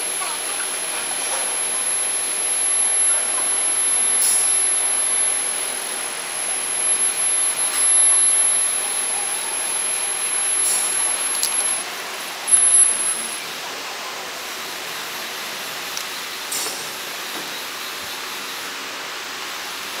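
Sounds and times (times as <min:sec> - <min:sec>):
high-pitched lathe whine: 0:00.0 - 0:20.0
metal lathe machining hiss: 0:00.0 - 0:20.0.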